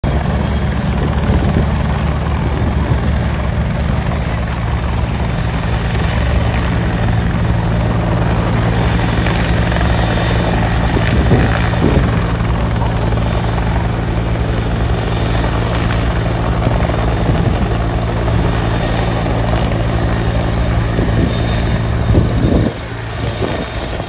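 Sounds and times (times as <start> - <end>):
helicopter engine running: 0.0 - 24.0
helicopter rotor beat: 0.0 - 24.0.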